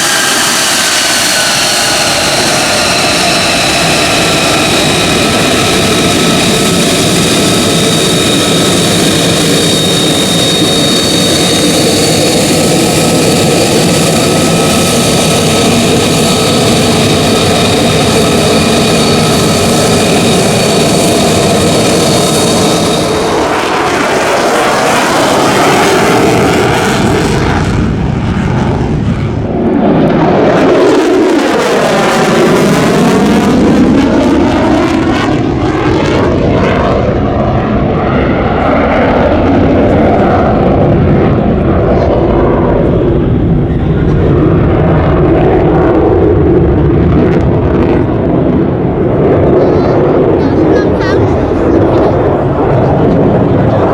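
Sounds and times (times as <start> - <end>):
jet engine roaring and whining: 0.0 - 53.9.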